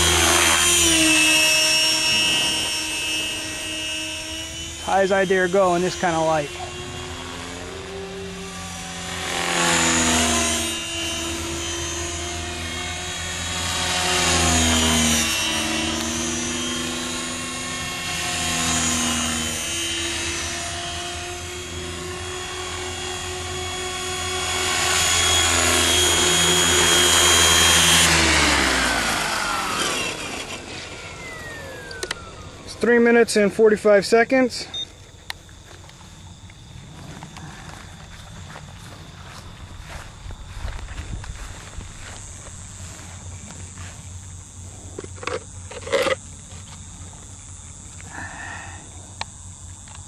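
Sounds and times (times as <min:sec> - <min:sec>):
rc helicopter motor and rotors: 0:00.0 - 0:50.0.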